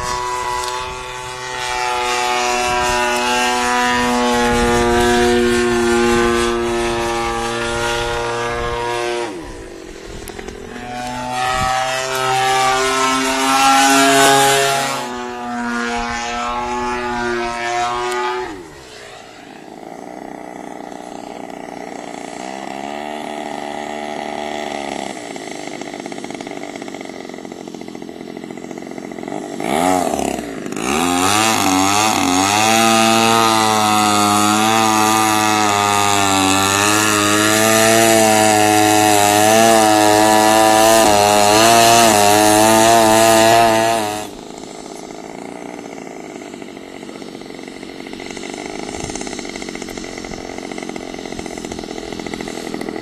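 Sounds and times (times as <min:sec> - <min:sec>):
model aircraft engine: 0:00.0 - 0:53.0.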